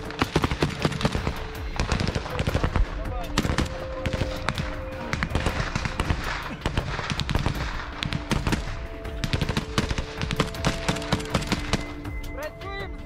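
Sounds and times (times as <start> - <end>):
rifle and machine-gun shots: 0.0 - 12.1.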